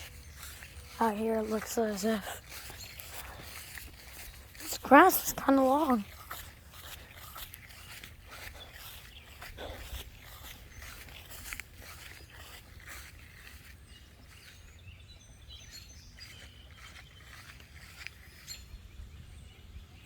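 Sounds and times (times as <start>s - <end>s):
footsteps through long grass: 0.0s - 19.5s.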